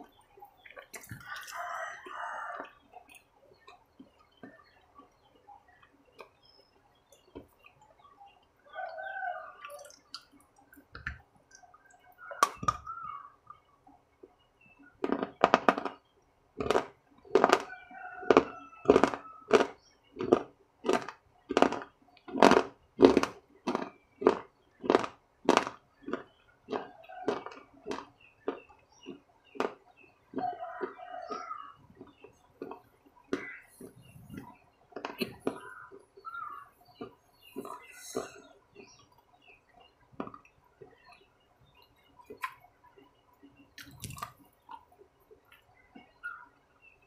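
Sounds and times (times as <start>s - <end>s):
crunchy chewing: 0.0s - 13.4s, 14.2s - 16.0s, 16.6s - 47.0s.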